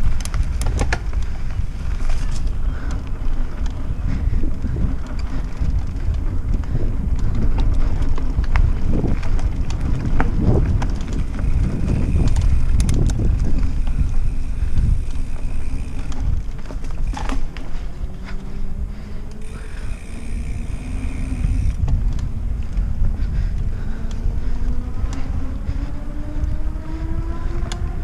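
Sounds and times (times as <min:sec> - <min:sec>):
tyres rumbling on dirt: 0:00.0 - 0:22.6
bike clicks and rattles: 0:00.0 - 0:28.0
wind buffeting microphone: 0:00.0 - 0:28.0.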